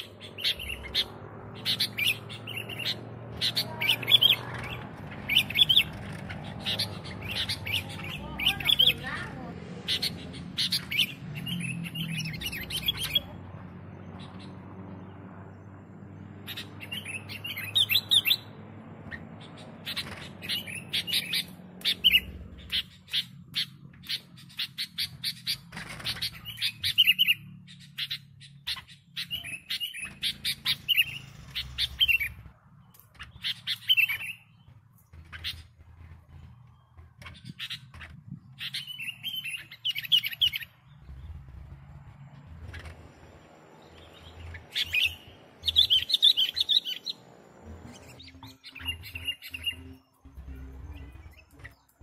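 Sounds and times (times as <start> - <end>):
bird chirping: 0.0 - 52.0.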